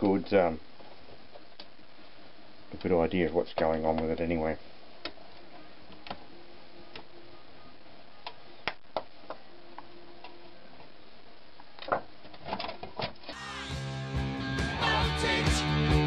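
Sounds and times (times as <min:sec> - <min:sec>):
faint steady hiss: 0:00.0 - 0:13.4.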